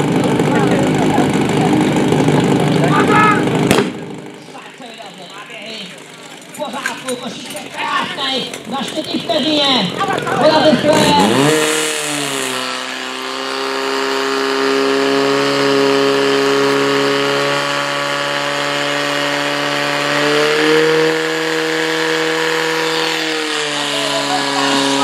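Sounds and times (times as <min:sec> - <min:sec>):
fire pump engine running: 0:00.0 - 0:25.0.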